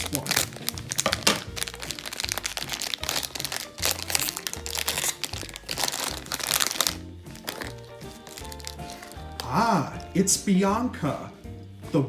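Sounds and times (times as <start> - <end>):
plastic bag crinkling: 0.0 - 10.2
soft background music: 0.0 - 12.0.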